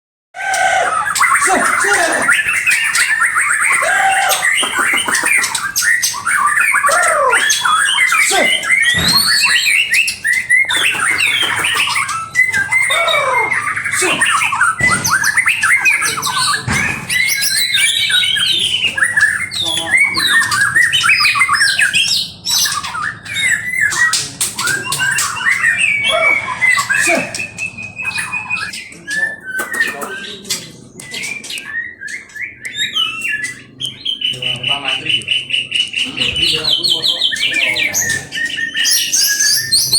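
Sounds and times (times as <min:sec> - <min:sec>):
songbirds singing and chattering: 0:00.4 - 0:39.9.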